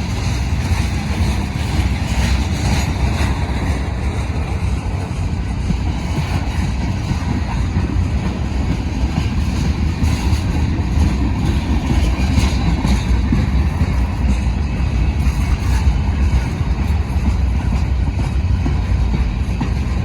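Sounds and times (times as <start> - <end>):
freight train rumbling past: 0.0 - 20.0
train clatter: 0.0 - 20.0.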